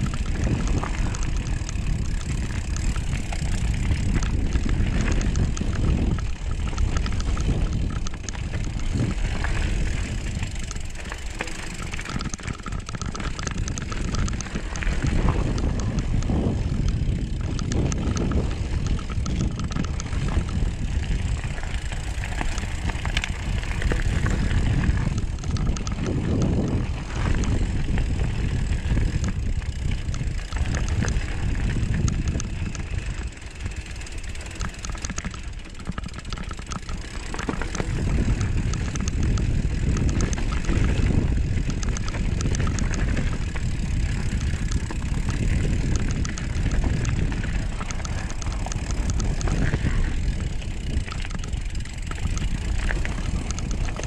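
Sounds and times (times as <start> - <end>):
bike tyres on dirt: 0.0 - 54.0
small clicks and rattles: 0.0 - 54.0
wind rumbling over microphone: 0.0 - 54.0.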